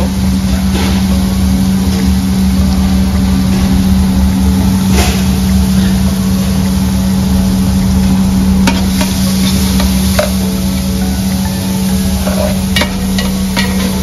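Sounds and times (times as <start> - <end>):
kitchen equipment drone: 0.0 - 14.0.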